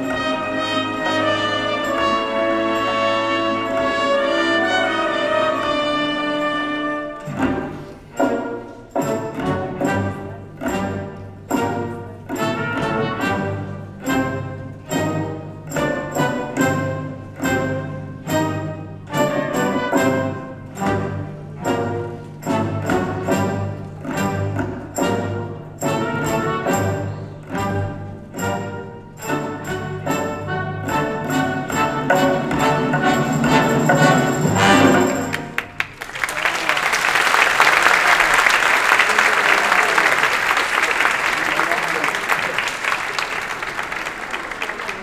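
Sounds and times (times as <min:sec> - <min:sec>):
orchestra with brass and strings: 0:00.0 - 0:45.0.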